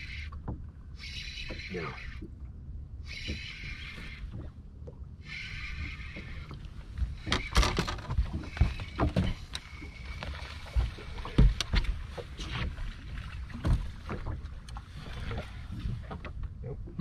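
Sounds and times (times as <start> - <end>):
water against boat hull: 0.0 - 17.0.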